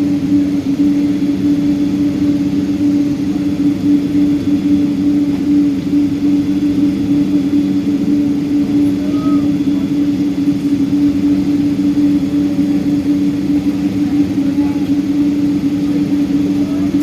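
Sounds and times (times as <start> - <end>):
jet cabin drone: 0.0 - 17.0.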